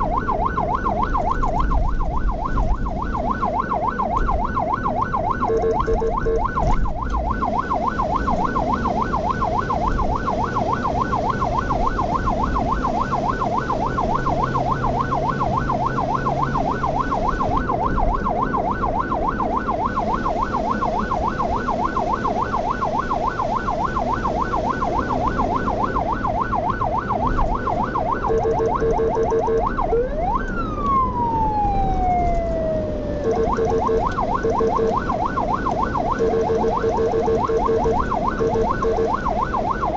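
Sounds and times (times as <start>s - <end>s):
ambulance siren yelping: 0.0s - 39.9s
lower steady siren tone: 0.0s - 39.9s
siren falling wail: 0.0s - 39.9s.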